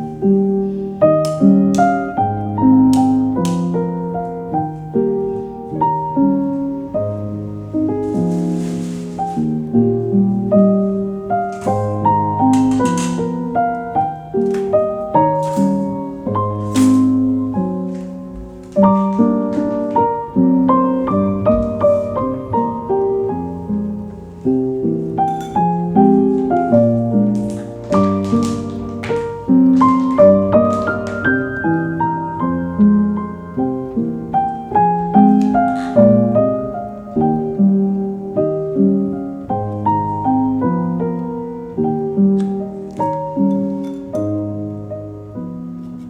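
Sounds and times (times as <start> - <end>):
slow solo piano melody: 0.0 - 46.0.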